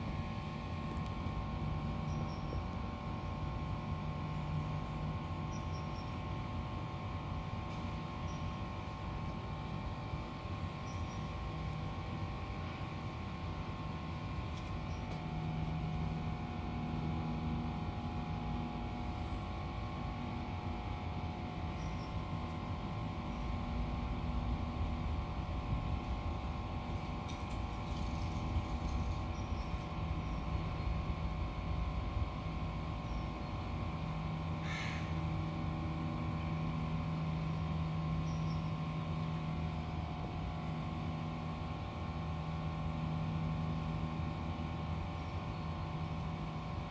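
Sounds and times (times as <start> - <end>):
steady mechanical hum: 0.0 - 46.9.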